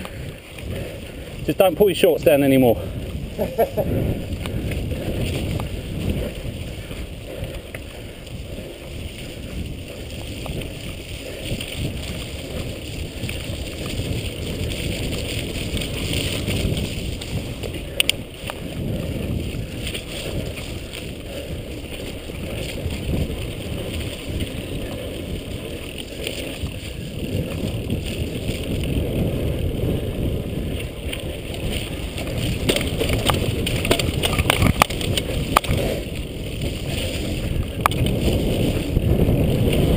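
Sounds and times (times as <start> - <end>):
bike rattling over dirt trail: 0.0 - 39.9
wind on microphone: 0.0 - 39.9.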